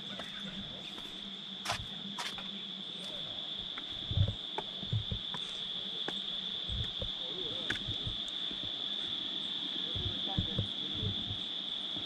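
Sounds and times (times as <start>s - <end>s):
footsteps on concrete steps: 0.0s - 9.2s, 9.8s - 11.5s
high-pitched insect drone: 0.0s - 12.0s.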